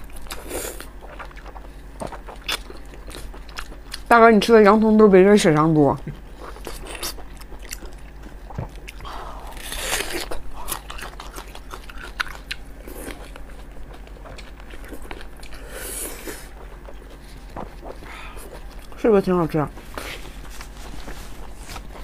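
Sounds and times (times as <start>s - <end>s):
chewing soft food: 0.0s - 4.2s, 5.4s - 19.0s.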